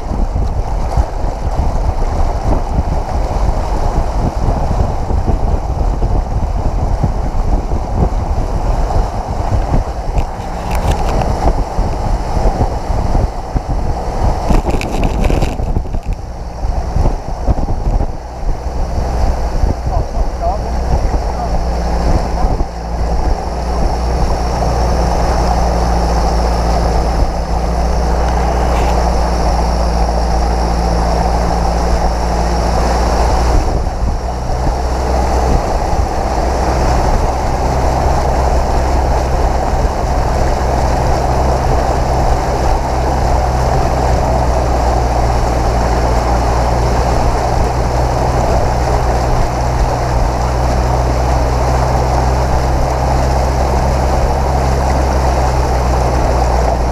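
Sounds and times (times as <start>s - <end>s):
vehicle engine running: 0.0s - 56.9s
water rushing and splashing: 0.0s - 56.9s.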